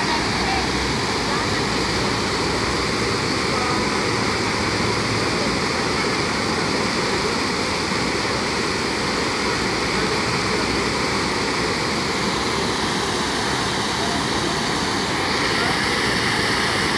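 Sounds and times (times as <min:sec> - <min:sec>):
fountain water splashing: 0:00.0 - 0:16.9.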